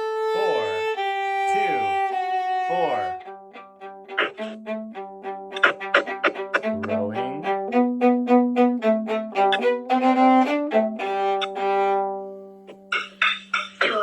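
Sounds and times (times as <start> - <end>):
violin playing a tune: 0.0 - 13.0
recorded accompaniment: 0.0 - 14.0.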